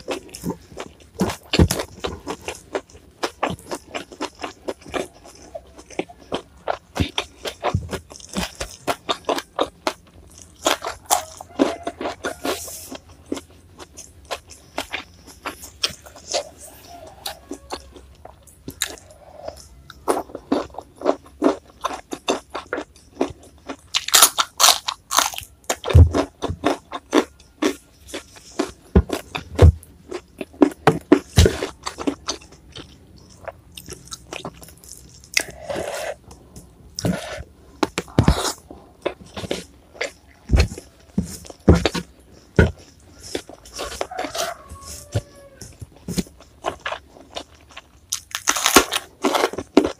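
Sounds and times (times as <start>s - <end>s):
crunching and chewing crisp food: 0.0s - 49.9s.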